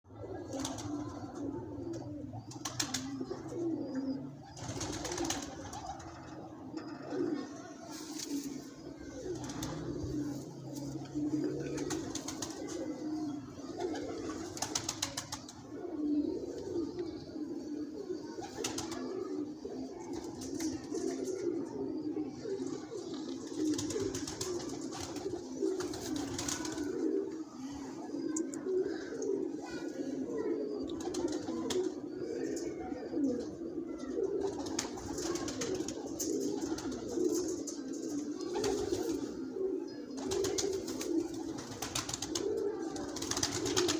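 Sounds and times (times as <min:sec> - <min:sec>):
pigeons cooing: 0:00.1 - 0:43.9.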